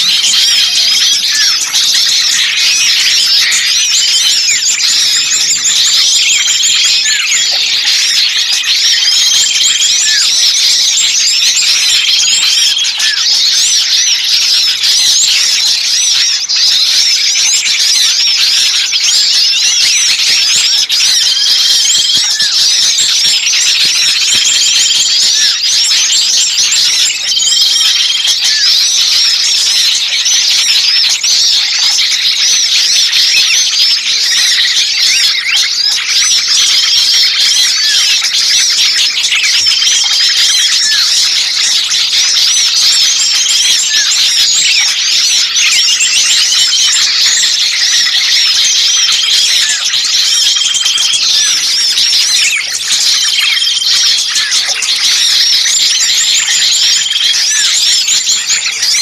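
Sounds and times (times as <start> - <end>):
songbirds chattering alarm calls: 0.0 - 59.0.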